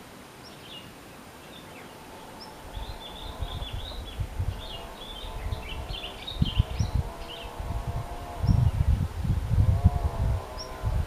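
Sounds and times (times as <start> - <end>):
bird chirping and twittering: 0.4 - 9.0, 9.8 - 11.0.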